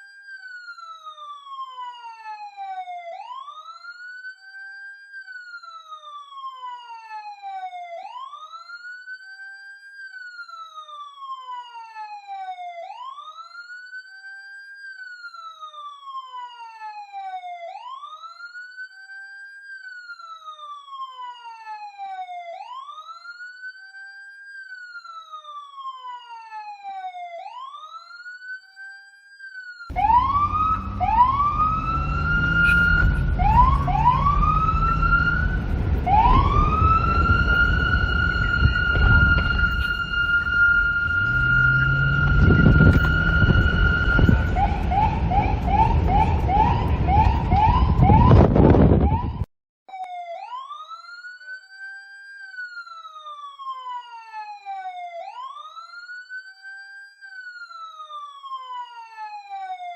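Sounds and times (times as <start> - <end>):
police siren wailing: 0.0 - 59.9.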